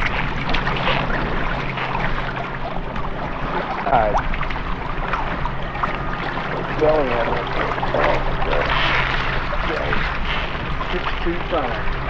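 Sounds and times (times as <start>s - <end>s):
water splashing around a kayak: 0.0s - 12.0s.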